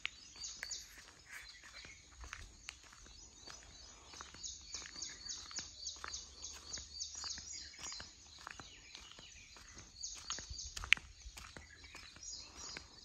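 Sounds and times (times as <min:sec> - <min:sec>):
bird chirping: 0:00.0 - 0:13.0
footsteps on brick paving: 0:00.0 - 0:13.0.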